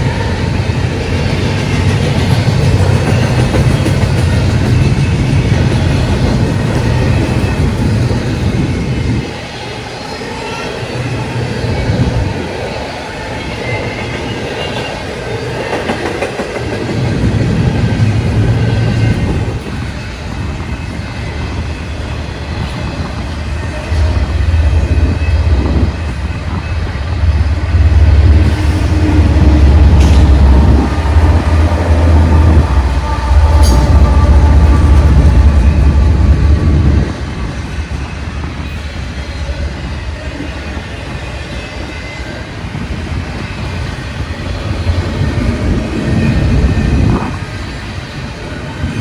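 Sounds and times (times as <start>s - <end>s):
freight train passing: 0.0s - 49.0s.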